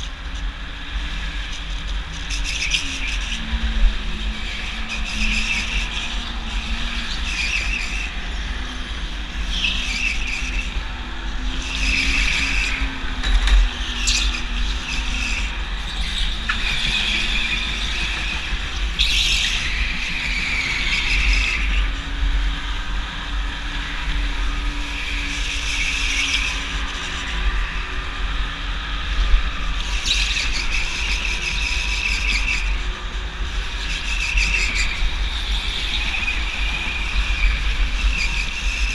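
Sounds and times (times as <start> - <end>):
go-kart motor rumble: 0.0 - 38.9.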